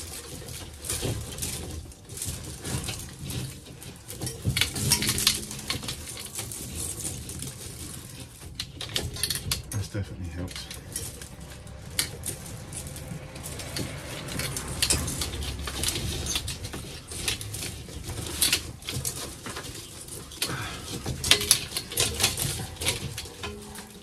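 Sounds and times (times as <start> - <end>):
cables rustling and scraping: 0.0 - 24.0
sharp clicks and light knocks: 0.0 - 24.0.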